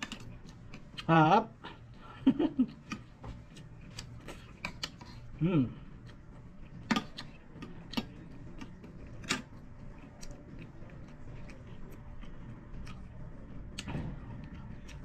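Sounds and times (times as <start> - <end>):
chewing: 0.0 - 1.1, 2.7 - 15.0.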